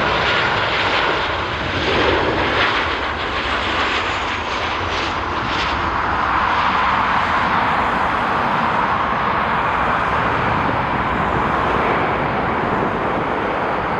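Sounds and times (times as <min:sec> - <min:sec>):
jet engine rushing: 0:00.0 - 0:13.9.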